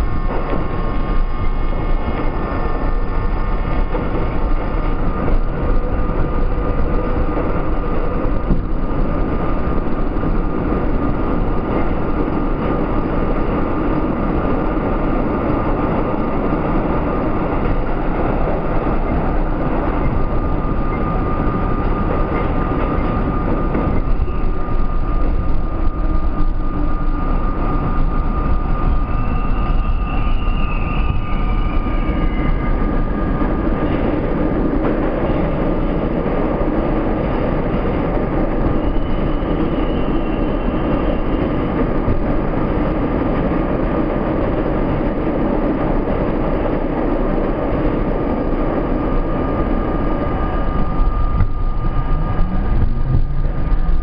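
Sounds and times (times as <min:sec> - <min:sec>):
faint high squeals: 0:00.0 - 0:34.2, 0:37.2 - 0:43.0, 0:48.4 - 0:54.0
constant high hum: 0:00.0 - 0:54.0
train wheels rumbling on rails: 0:00.0 - 0:54.0.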